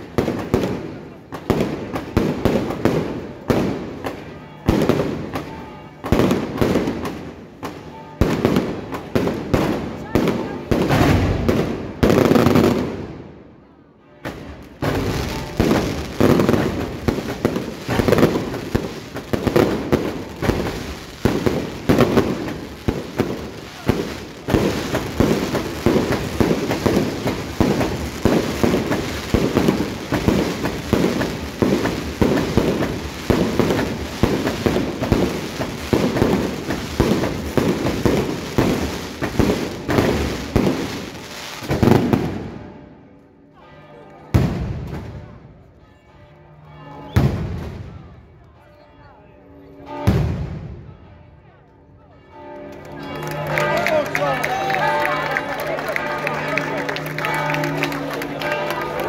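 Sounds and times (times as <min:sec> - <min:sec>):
fireworks bangs and crackles: 0:00.0 - 0:13.5, 0:14.1 - 0:42.8, 0:44.3 - 0:45.5, 0:47.2 - 0:48.3, 0:49.9 - 0:50.9, 0:53.2 - 0:59.0.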